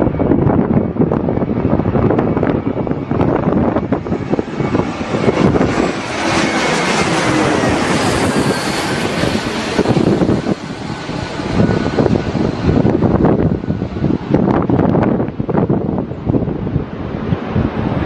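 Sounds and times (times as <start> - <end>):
jet aircraft engine: 0.0 - 18.0
wind buffeting microphone: 0.0 - 18.0.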